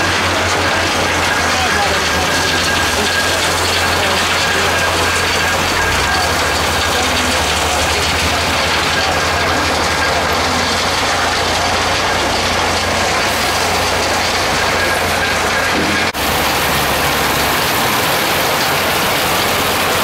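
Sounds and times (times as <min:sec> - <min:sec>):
gravel rattling clatter: 0:00.0 - 0:20.0.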